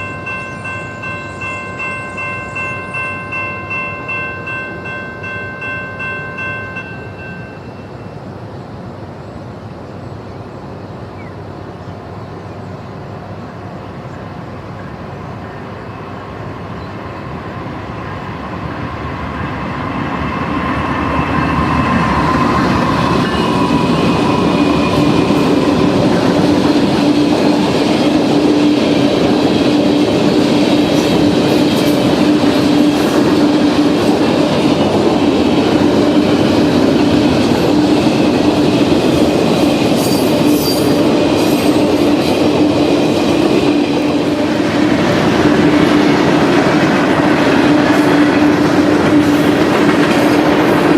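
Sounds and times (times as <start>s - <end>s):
locomotive hum: 0.0s - 50.9s
train wheels on rail: 0.0s - 50.9s.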